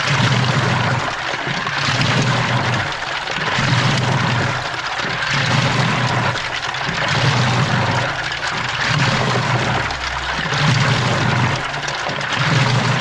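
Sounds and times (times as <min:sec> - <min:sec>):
washing machine motor hum: 0:00.0 - 0:13.0
water sloshing: 0:00.0 - 0:13.0.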